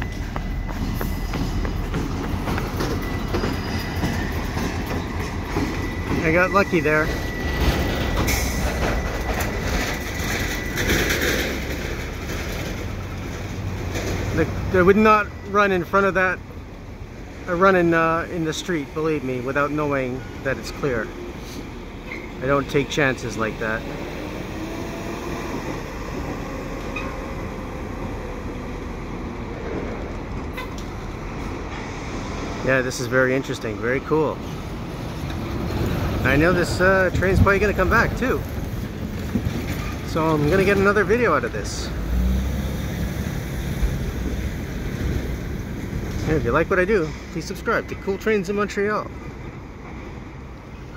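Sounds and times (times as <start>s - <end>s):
truck passing: 0.0s - 47.9s
diesel locomotives rumbling: 0.0s - 50.9s.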